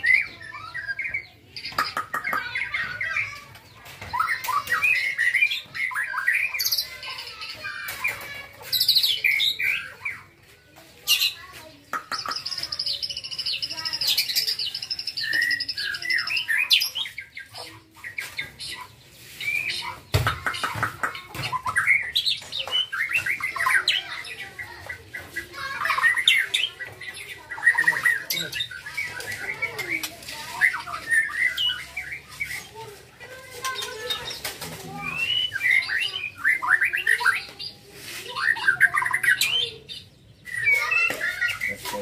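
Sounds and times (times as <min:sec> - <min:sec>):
bird singing varied song: 0:00.0 - 0:42.0.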